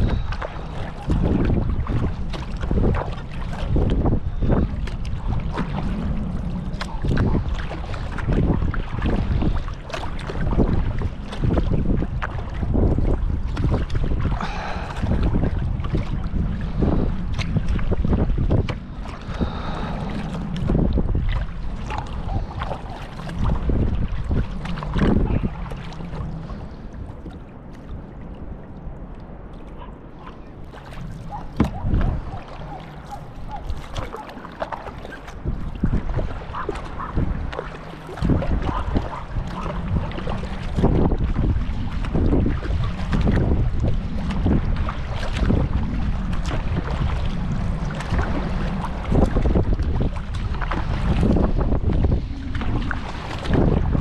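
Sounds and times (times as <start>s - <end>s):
water splashing around kayak: 0.0s - 54.0s
wind buffeting microphone: 0.0s - 54.0s.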